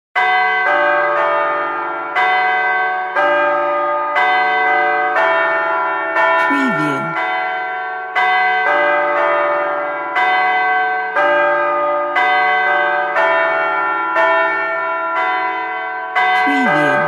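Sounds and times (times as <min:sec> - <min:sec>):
church bells pealing: 0:00.2 - 0:17.0.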